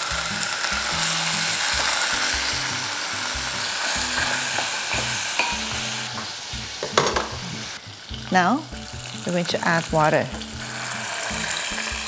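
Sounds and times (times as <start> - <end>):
background music: 0.0 - 12.0
pork sizzling in oil: 0.0 - 12.0.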